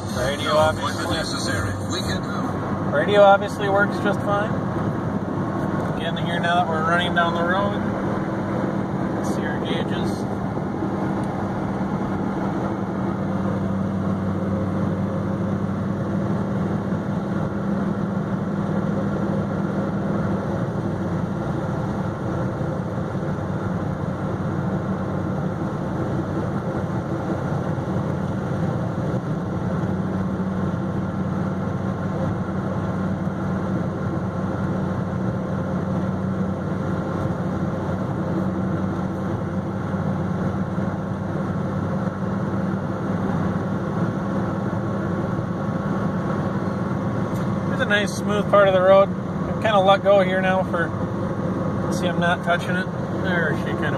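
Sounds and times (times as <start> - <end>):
car engine cruising: 0.0 - 53.9
tyre and road noise: 0.0 - 53.9.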